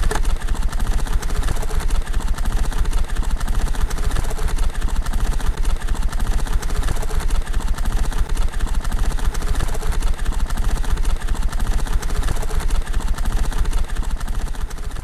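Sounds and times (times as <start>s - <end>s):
rapid mechanical clatter: 0.0s - 15.0s.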